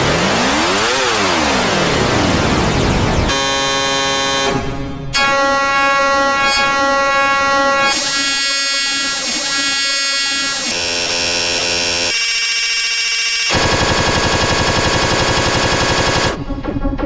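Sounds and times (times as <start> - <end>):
dense buzzing synthesizer cluster: 0.0 - 16.4.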